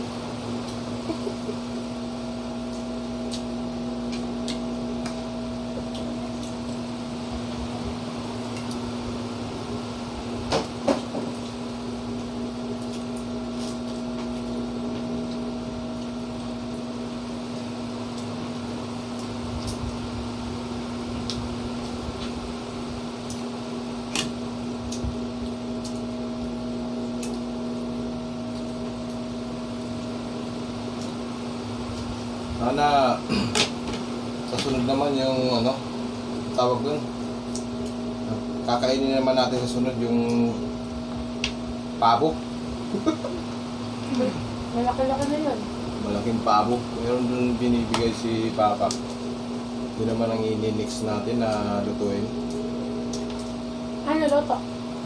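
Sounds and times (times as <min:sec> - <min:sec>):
appliance electrical hum: 0:00.0 - 0:55.0.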